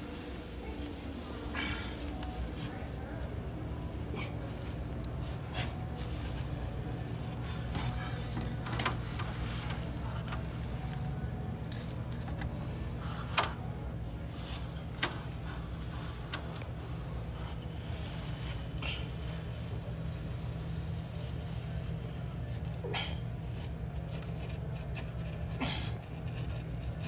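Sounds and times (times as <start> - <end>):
utility knife cutting wall covering: 0.0 - 22.7
low hum: 0.0 - 27.0.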